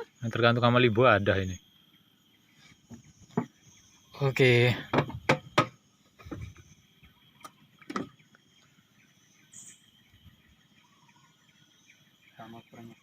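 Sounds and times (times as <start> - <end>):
faint insect drone: 0.0 - 13.0.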